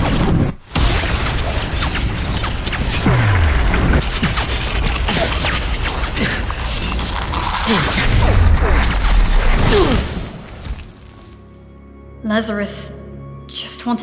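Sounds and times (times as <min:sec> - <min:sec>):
crackle of sparks: 0:00.0 - 0:11.5.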